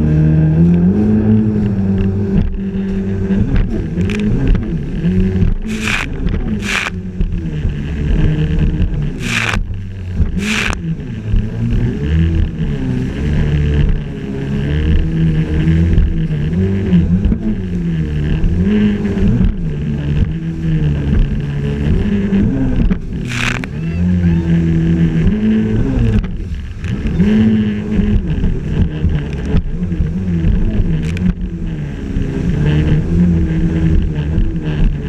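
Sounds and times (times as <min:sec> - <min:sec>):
jet ski engine running: 0:00.0 - 0:35.0
water rushing past hull: 0:00.0 - 0:35.0.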